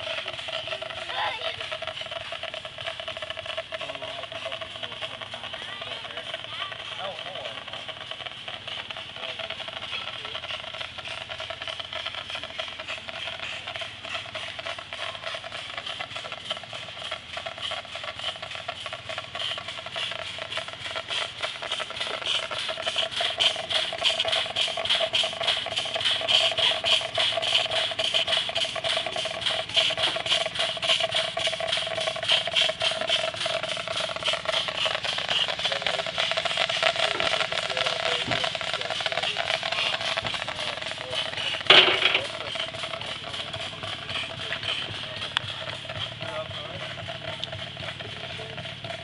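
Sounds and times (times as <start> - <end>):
model steam engine running: 0.0 - 49.0.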